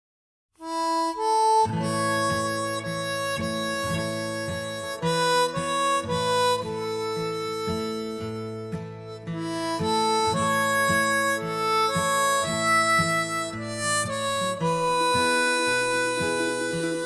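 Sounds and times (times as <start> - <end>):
harmonica long held notes: 0.6 - 17.0
strummed guitar accompaniment: 0.6 - 17.0.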